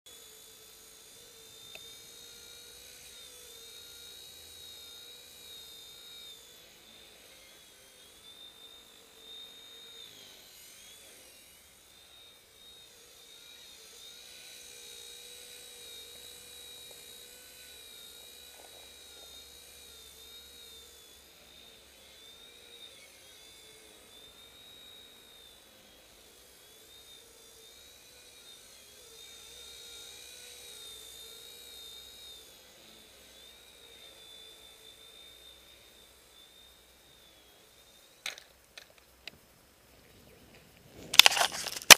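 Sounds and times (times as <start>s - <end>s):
rc helicopter whine: 0.1s - 41.9s.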